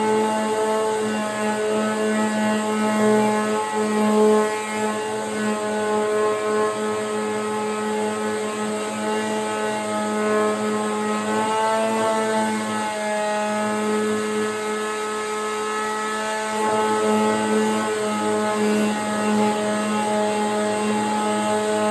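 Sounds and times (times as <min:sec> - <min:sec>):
electric power sander running: 0:00.0 - 0:21.9.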